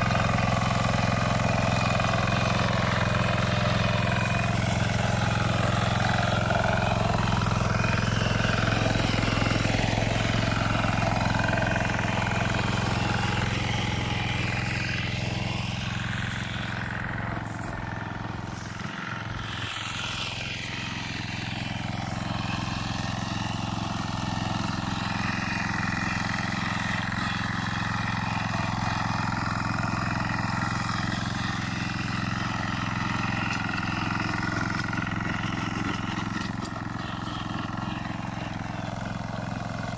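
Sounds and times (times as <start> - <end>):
walking tractor engine running: 0.0 - 39.9.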